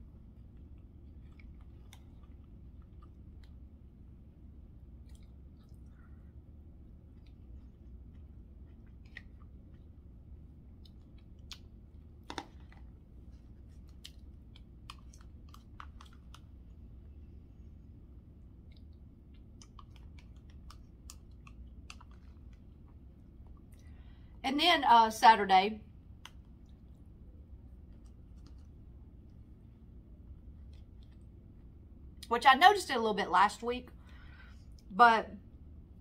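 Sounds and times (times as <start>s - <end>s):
woman chewing food: 0.0s - 24.3s, 26.0s - 32.3s.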